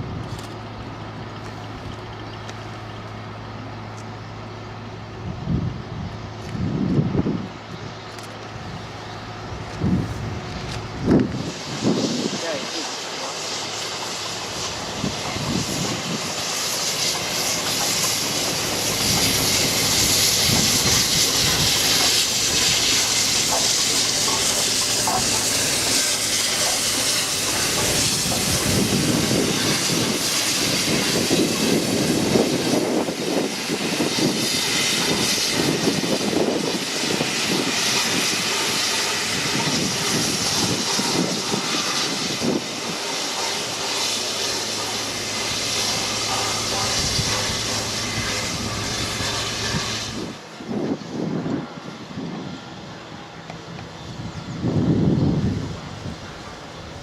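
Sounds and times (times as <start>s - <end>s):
locomotive engine rumble: 0.0s - 57.0s
steam hissing: 8.0s - 57.0s.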